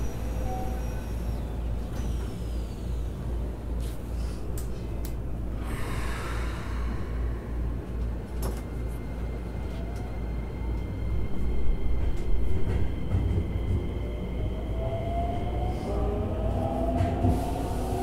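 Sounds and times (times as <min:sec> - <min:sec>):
electric train pulling away: 0:00.0 - 0:04.3, 0:05.6 - 0:18.0.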